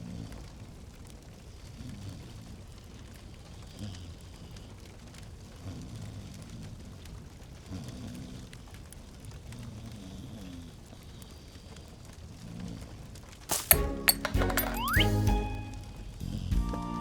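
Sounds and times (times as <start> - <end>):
fireplace fire crackling: 0.0 - 14.4.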